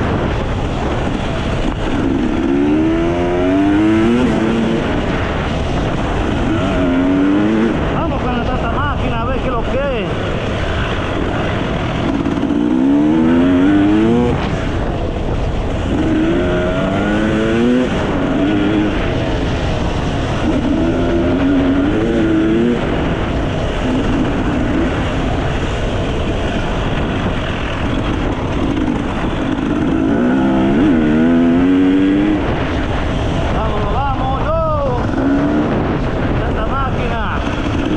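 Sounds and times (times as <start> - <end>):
dirt bike engine revving: 0.0 - 37.9
steady rushing noise: 0.0 - 37.9.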